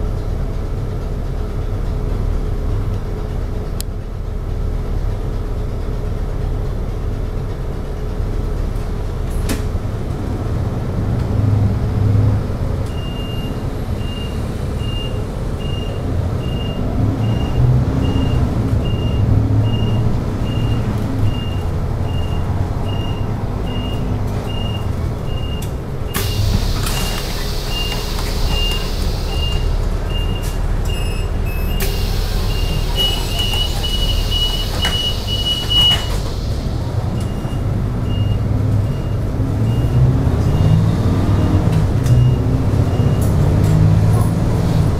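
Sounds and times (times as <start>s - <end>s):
bus engine rumbling: 0.0s - 44.9s.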